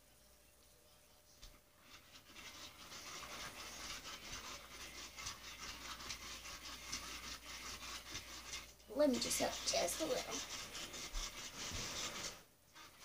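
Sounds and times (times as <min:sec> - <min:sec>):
toy motor whirring: 0:01.9 - 0:13.0.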